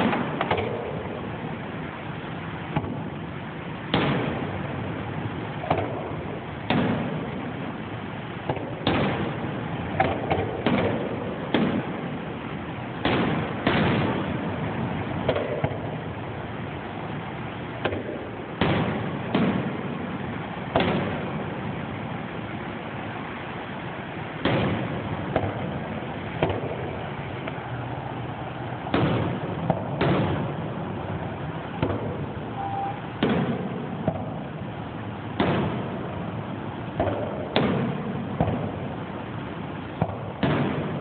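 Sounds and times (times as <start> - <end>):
firework shells booming: 0.0 - 41.0
steady background hiss: 0.0 - 41.0.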